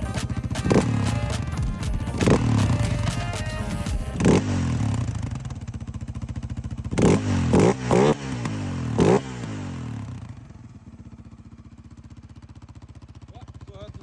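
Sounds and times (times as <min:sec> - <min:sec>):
quad engine idling and revving: 0:00.0 - 0:14.0.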